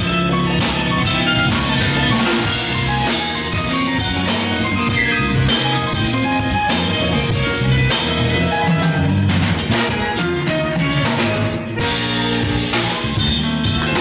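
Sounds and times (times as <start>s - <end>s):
congas: 0.0s - 14.0s
drum kit: 0.0s - 14.0s
electric guitar: 0.0s - 14.0s
keyboard: 0.0s - 14.0s.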